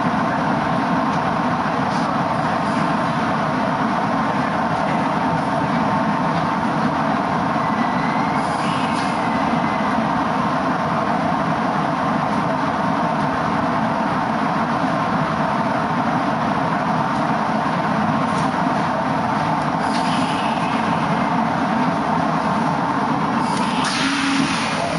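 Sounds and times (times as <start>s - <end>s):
train running hum: 0.0s - 24.9s.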